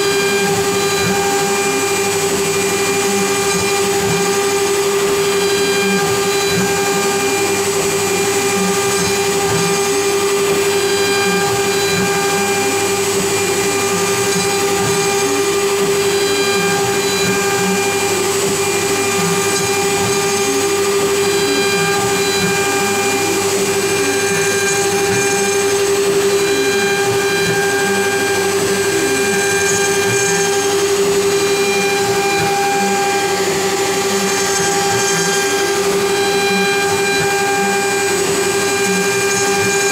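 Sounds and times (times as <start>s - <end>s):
machine axes gliding tones: 0.0s - 39.9s
router spindle cutting wood: 0.0s - 39.9s.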